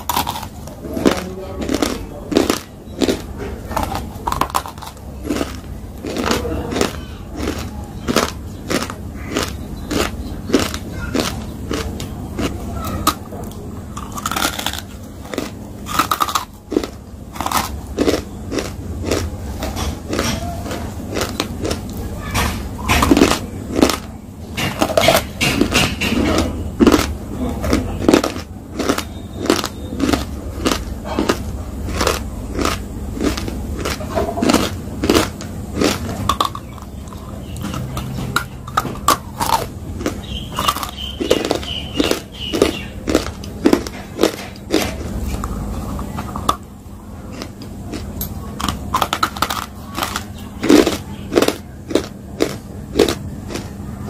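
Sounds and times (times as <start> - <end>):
crunchy food chewing: 0.0 - 54.0.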